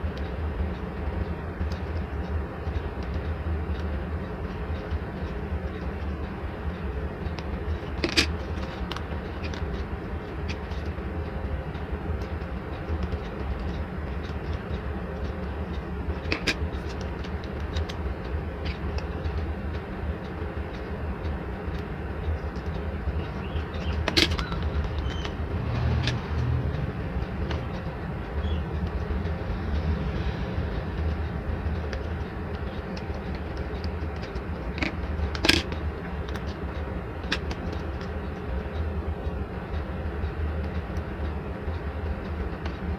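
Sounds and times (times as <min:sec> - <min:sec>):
low background rumble: 0:00.0 - 0:42.9
steady low hum: 0:00.0 - 0:42.9.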